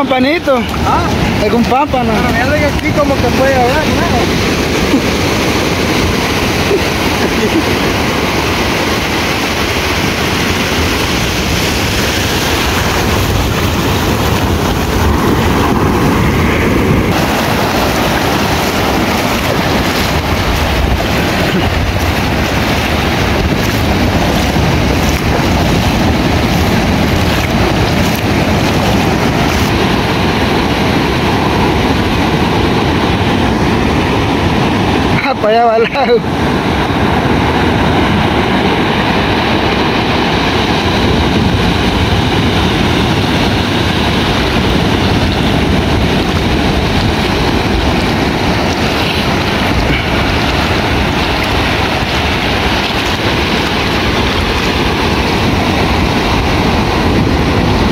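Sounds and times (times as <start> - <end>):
ocean surf breaking: 0.0 - 57.9
wind buffeting microphone: 0.0 - 57.9.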